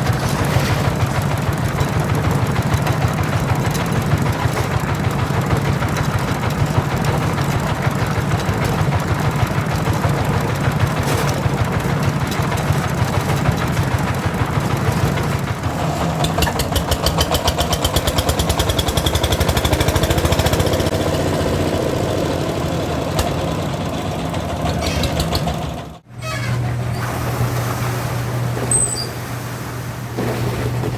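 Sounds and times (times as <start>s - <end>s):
small engine running: 0.0s - 27.5s.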